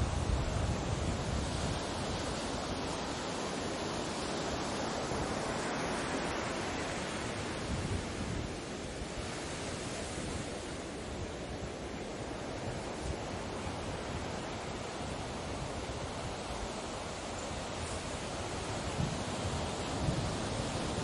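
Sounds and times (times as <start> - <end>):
sea waves washing: 0.0 - 21.0.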